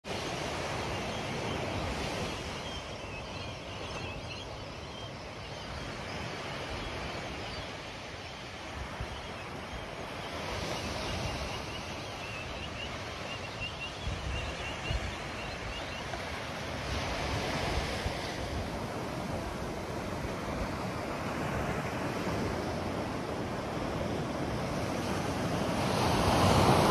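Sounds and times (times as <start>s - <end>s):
small waves breaking on beach: 0.0s - 26.9s.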